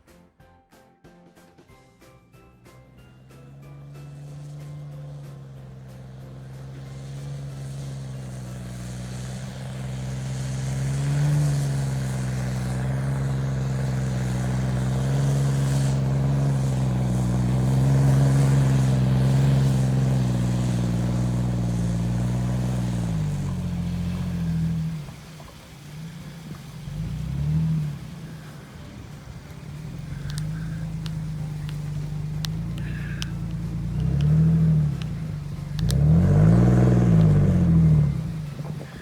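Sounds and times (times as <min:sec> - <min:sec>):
off-road vehicle engine running: 0:02.7 - 0:39.0.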